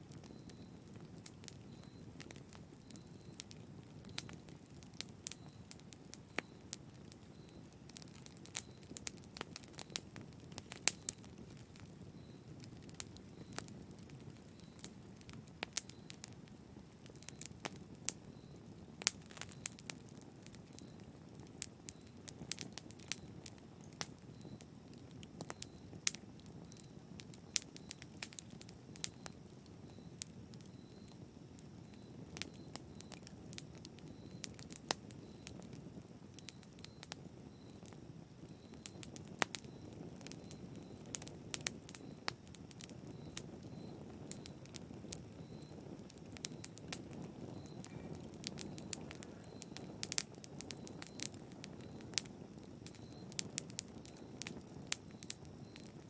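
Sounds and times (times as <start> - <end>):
low rush of flames: 0.0 - 56.0
wood fire pops and snaps: 0.0 - 56.0.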